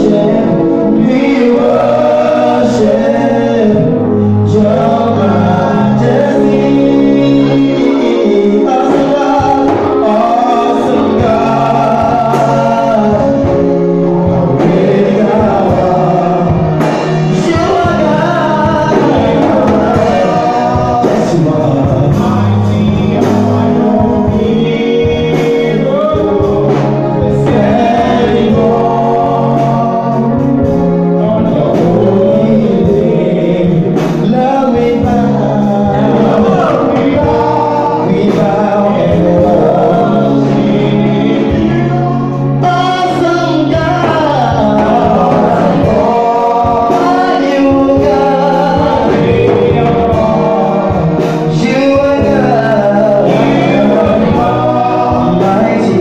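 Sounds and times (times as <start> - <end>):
backing singers in harmony: 0.0 - 56.0
keyboard chords: 0.0 - 56.0
man singing lead: 0.0 - 56.0
percussion hits: 0.9 - 33.2, 33.8 - 56.0.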